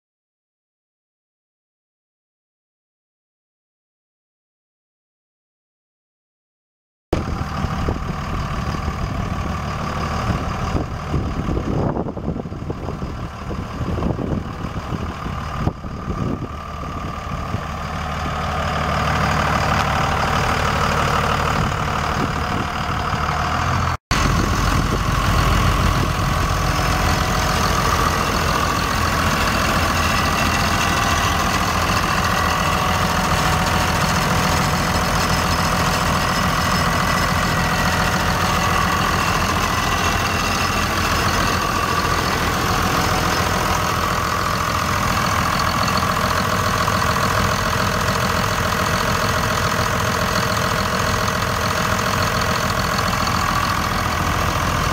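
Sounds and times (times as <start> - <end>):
diesel engine idling: 7.2 - 54.9.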